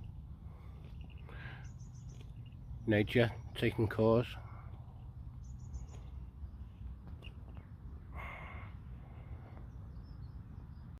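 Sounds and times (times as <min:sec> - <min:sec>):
low wind rumble: 0:00.0 - 0:10.9.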